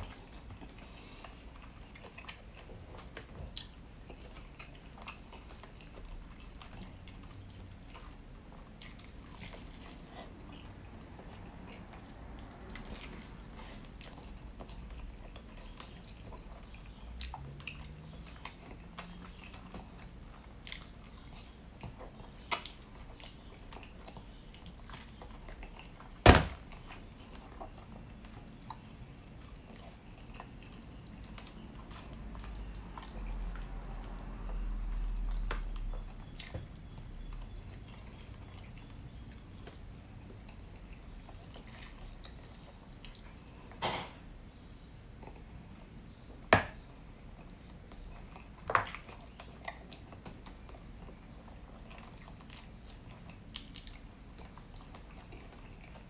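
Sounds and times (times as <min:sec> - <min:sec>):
man chewing: 0:00.0 - 0:43.8, 0:44.4 - 0:45.8, 0:47.2 - 0:56.0.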